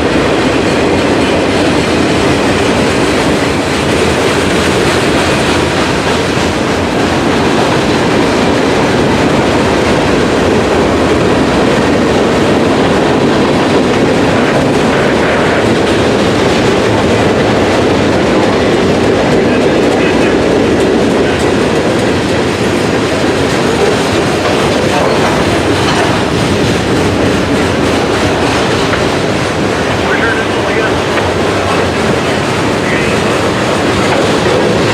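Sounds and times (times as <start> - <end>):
freight train wheels on rails: 0.0 - 34.9.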